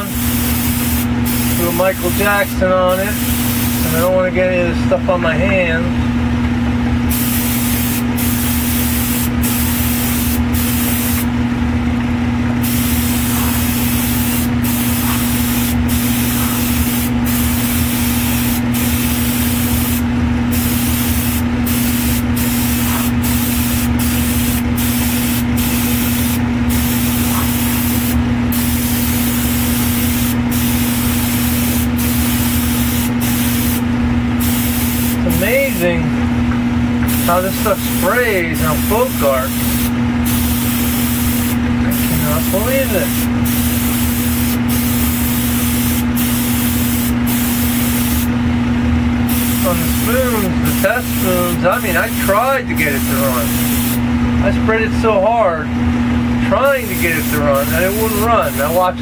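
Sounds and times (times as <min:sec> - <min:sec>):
airbrush spraying hiss: 0:00.0 - 0:02.5, 0:03.1 - 0:04.0, 0:07.1 - 0:11.3, 0:12.6 - 0:33.8, 0:34.4 - 0:35.7, 0:37.1 - 0:48.3, 0:49.3 - 0:54.0, 0:56.9 - 0:58.8
motor hum: 0:00.0 - 0:51.8.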